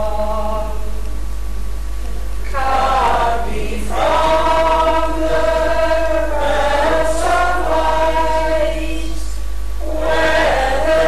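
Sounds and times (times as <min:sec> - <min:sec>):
group singing a hymn: 0:00.0 - 0:01.0, 0:02.4 - 0:11.0.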